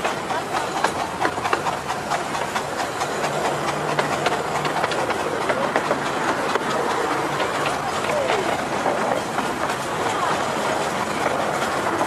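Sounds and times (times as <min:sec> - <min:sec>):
steady train rumble: 0:00.0 - 0:12.0
steam hissing: 0:00.0 - 0:12.0
train wheels clicking over rail joints: 0:00.0 - 0:12.0.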